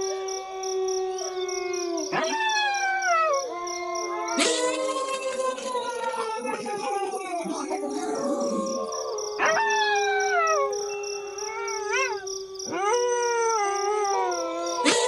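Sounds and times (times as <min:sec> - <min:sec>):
wolves howling: 0:00.0 - 0:15.0.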